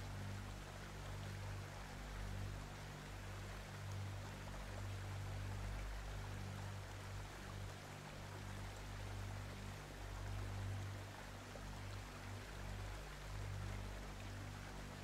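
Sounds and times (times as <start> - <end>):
flowing water-like hiss: 0.0 - 15.0
soft ambient music: 0.0 - 15.0.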